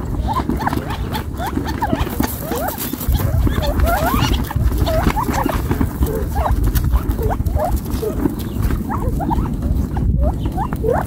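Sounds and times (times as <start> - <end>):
pecking clicks on gravel: 0.0 - 11.0.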